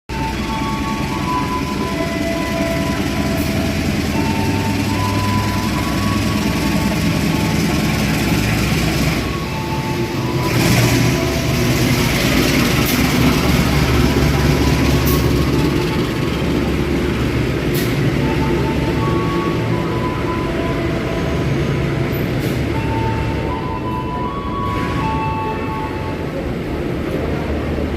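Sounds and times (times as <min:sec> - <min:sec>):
diesel locomotive engine drone: 0:00.1 - 0:27.9
moving train noise: 0:00.1 - 0:27.9.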